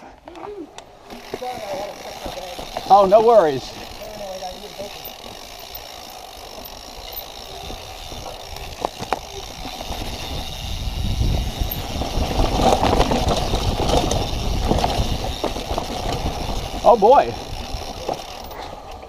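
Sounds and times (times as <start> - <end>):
bike rattling: 0.0 - 19.0
bike tyres rumbling on rocks: 1.0 - 19.0.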